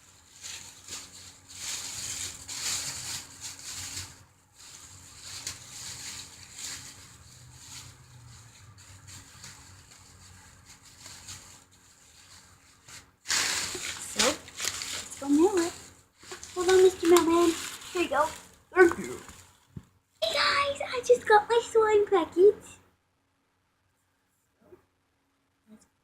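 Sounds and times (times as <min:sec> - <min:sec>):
rustling and handling noise: 0:00.0 - 0:22.6.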